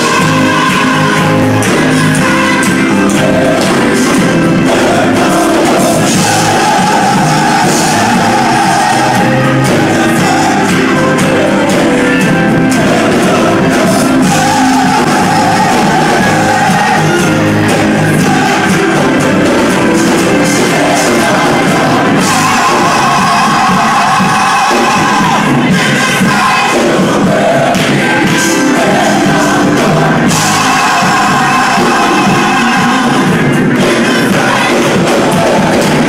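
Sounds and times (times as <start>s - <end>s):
church choir singing: 0.0s - 36.0s.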